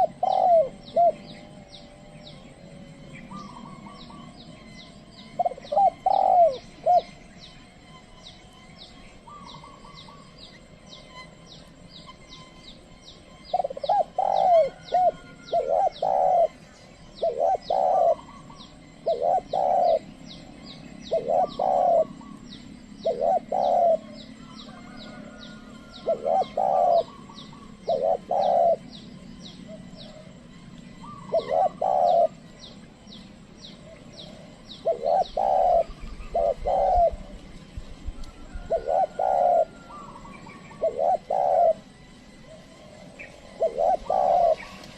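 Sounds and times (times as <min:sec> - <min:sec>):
dove cooing: 0:00.0 - 0:44.9.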